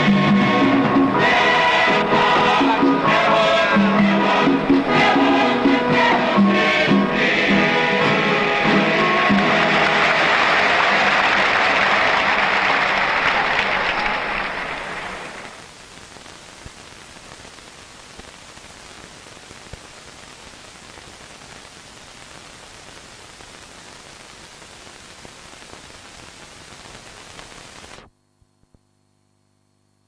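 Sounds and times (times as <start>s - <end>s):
film soundtrack hiss: 0.0s - 28.1s.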